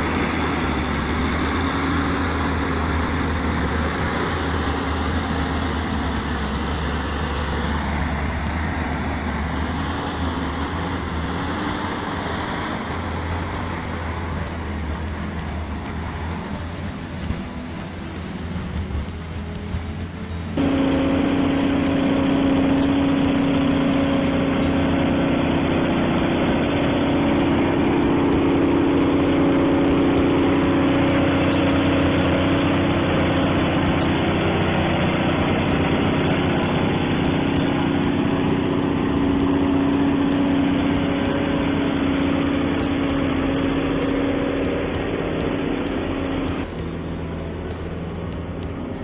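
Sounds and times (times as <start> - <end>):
diesel engine running under load: 0.0 - 49.0.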